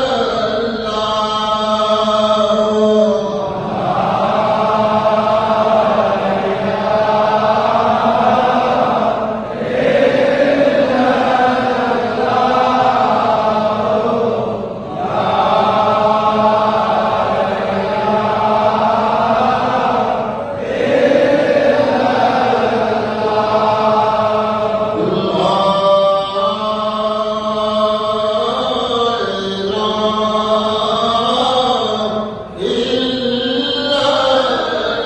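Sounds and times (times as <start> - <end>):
crowd chanting in unison: 0.0 - 35.0.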